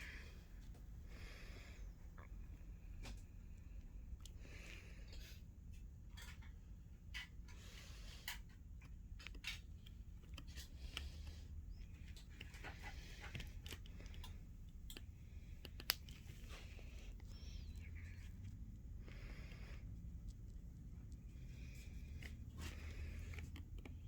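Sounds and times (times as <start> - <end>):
ceiling fan motor humming: 0.0 - 24.0.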